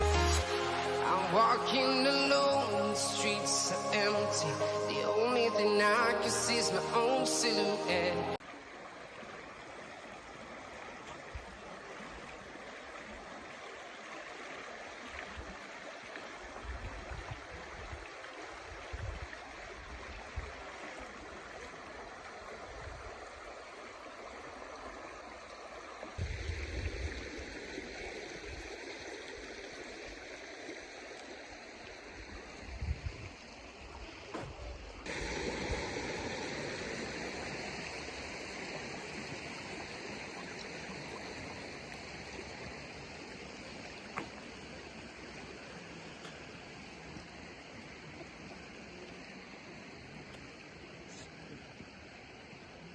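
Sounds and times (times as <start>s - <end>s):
stream water rushing and splashing: 0.0s - 52.9s.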